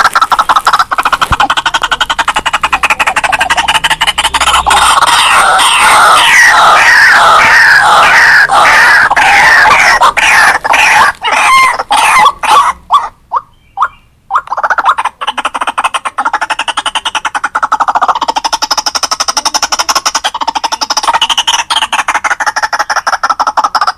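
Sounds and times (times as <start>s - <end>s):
waterhen calling: 0.0s - 23.9s.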